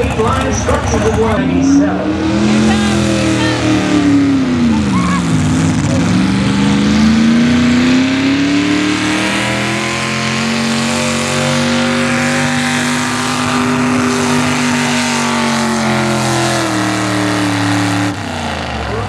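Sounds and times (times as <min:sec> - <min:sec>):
tractor engine at high revs: 0:00.0 - 0:19.0.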